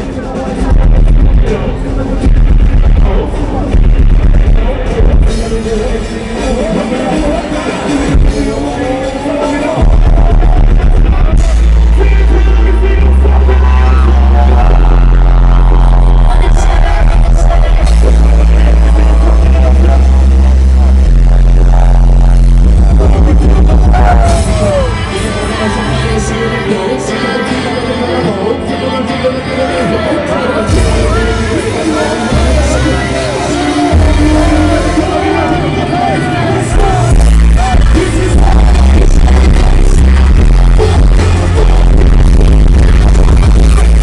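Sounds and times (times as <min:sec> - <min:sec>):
deep bass notes: 0:00.0 - 0:27.1, 0:29.2 - 0:44.0
loud live band music: 0:00.0 - 0:44.0
rapping vocal: 0:00.0 - 0:44.0.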